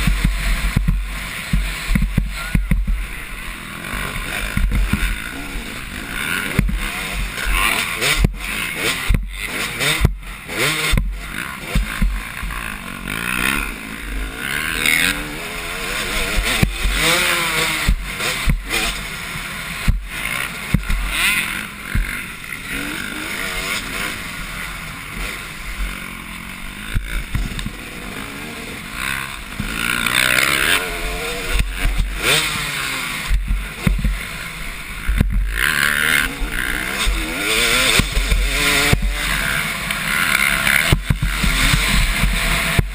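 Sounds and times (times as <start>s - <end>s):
motocross engines revving: 0.0s - 42.9s.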